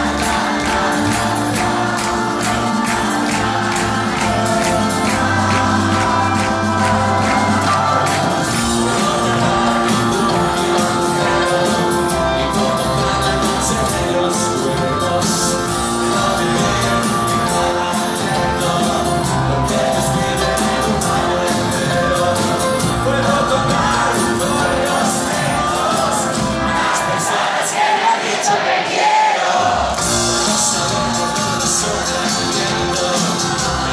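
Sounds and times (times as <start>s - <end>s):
live pop-rock band playing: 0.0s - 27.8s, 29.9s - 33.9s
person singing: 0.0s - 28.8s, 29.4s - 33.9s.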